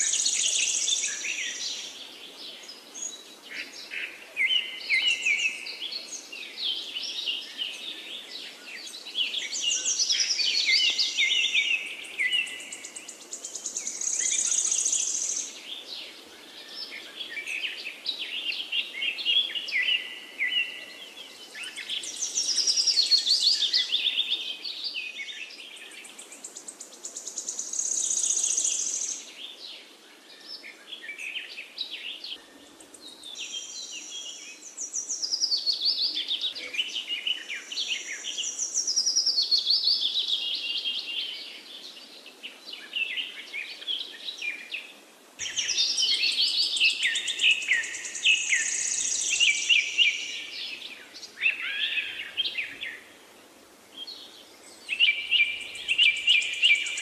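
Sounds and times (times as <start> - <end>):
faint steady hiss: 0.0 - 57.0
songbirds singing: 0.0 - 57.0.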